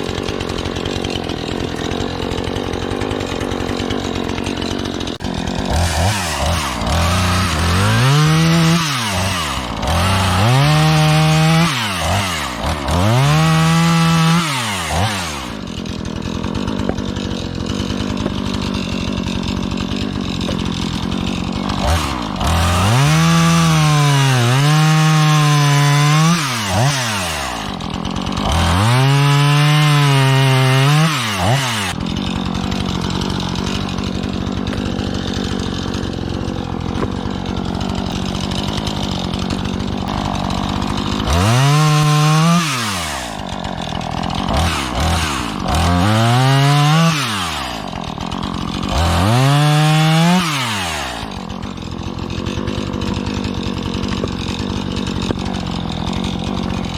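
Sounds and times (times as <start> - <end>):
chainsaw cutting wood: 0.0 - 56.9
chainsaw idling: 0.0 - 56.9.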